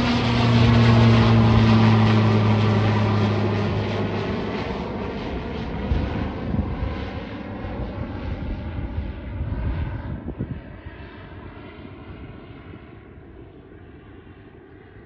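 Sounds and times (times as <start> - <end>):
turboprop aircraft engine drone: 0.0 - 15.0.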